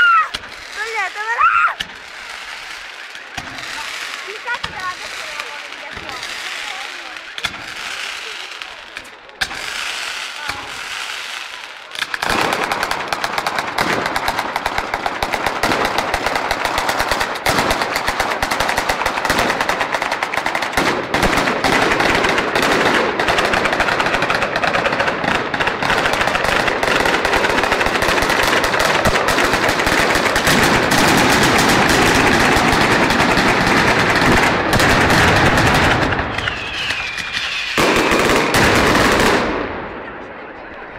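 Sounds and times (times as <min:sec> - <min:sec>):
firecracker bangs: 0:00.0 - 0:40.2
firecrackers cracking: 0:00.0 - 0:40.9.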